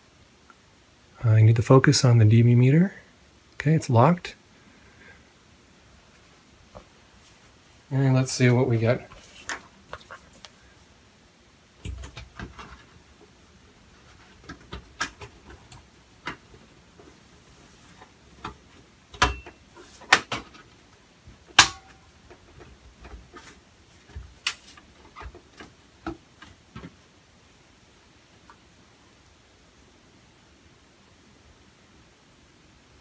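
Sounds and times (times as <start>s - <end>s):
faint computer fan noise: 0.0s - 33.0s.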